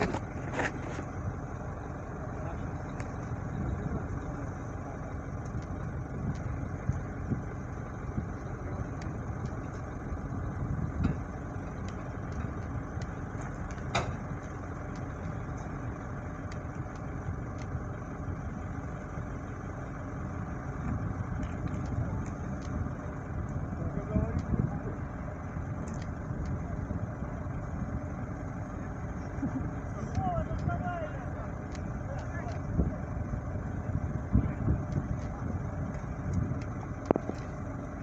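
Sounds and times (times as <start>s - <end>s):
engine running low rumble: 0.0s - 38.0s.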